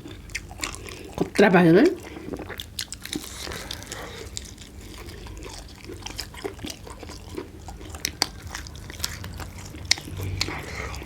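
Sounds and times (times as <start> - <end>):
chewing and crunching: 0.0 - 11.0
low steady hum: 0.0 - 11.0.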